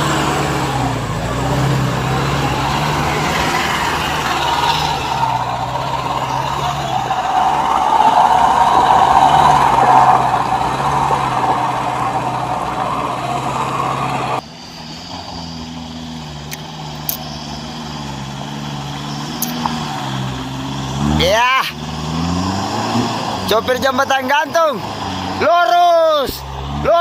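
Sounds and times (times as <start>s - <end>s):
truck engine running hard: 0.0s - 27.0s.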